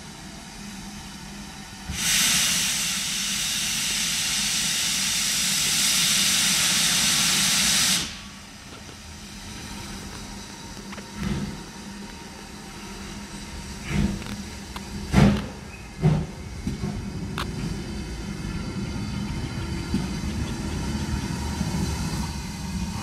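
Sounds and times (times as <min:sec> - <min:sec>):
locomotive hissing loudly: 0:00.0 - 0:23.0.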